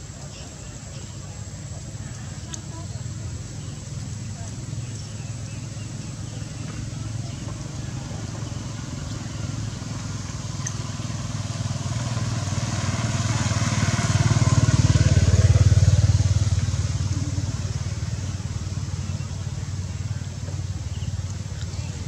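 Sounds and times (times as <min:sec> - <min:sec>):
vehicle engine passing by: 0:03.8 - 0:22.0.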